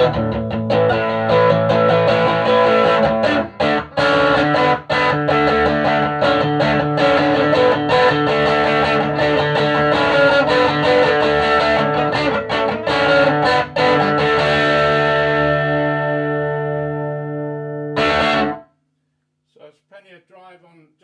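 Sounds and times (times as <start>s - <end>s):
electric guitar chords strummed: 0.0s - 18.7s.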